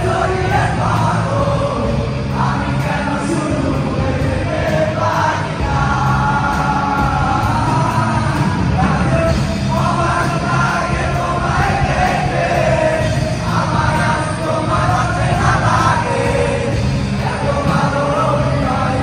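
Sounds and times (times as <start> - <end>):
live rock band playing: 0.0 - 19.0
man singing: 0.0 - 19.0.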